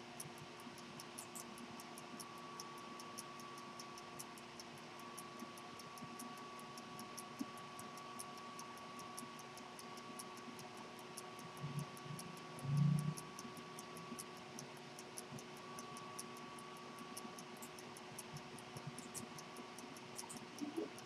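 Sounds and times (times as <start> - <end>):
pocket watch ticking faintly: 0.0 - 21.0.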